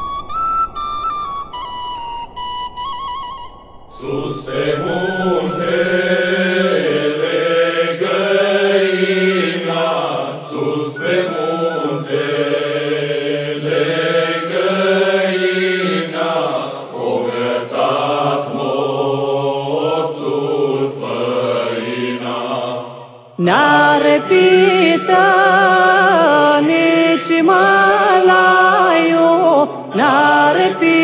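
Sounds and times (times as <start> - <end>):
men's choir singing: 3.9 - 31.0.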